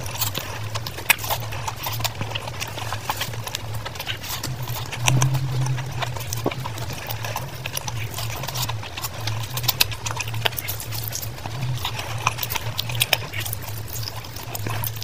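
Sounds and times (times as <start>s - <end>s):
low steady hum: 0.0s - 15.0s
wet chewing and lip-smacking: 0.0s - 15.0s.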